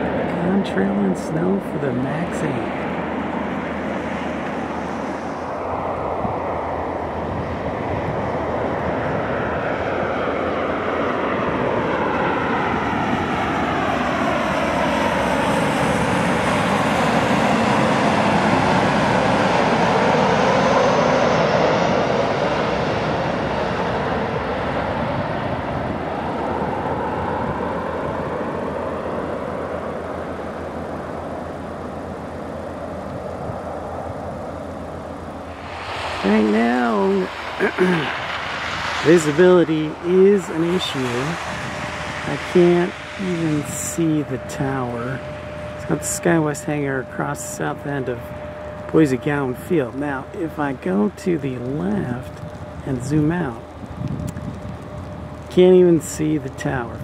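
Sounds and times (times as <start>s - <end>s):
jet airliner passing low: 0.0s - 57.0s.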